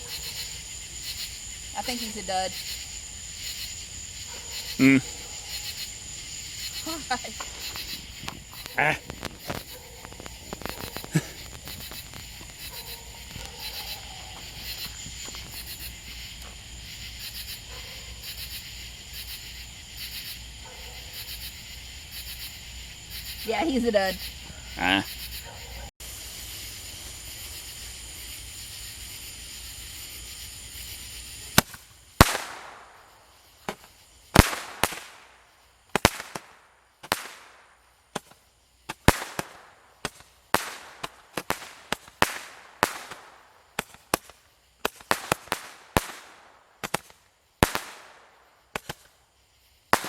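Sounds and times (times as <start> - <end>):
firework bangs: 0.0 - 25.5, 28.2 - 49.2
faint hiss: 0.0 - 50.0.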